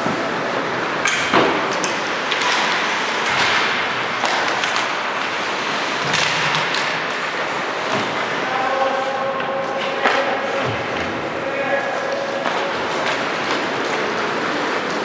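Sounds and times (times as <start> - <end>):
noise of players and crowd: 0.0 - 15.0.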